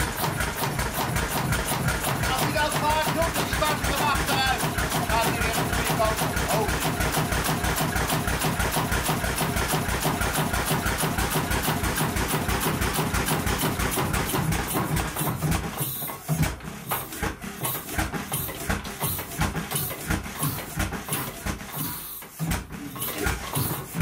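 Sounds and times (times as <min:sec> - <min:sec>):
marine engine running: 0:00.0 - 0:21.8.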